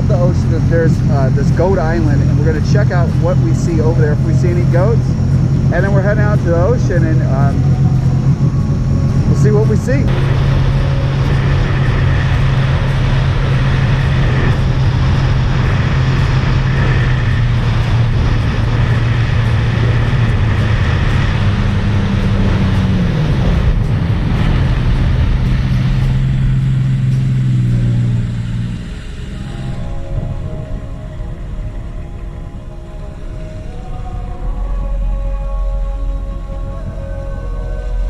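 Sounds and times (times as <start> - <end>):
jet ski engine running: 0.0 - 38.0
wind and water rushing: 0.0 - 38.0.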